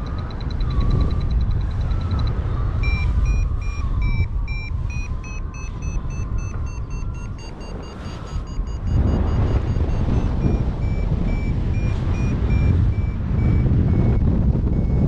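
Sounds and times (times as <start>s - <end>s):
variometer beeping with rising pitch: 0.0s - 15.0s
wind on microphone: 0.0s - 15.0s.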